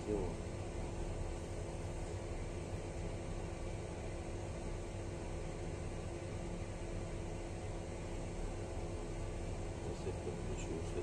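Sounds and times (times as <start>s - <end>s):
small fan motor humming: 0.0s - 11.0s.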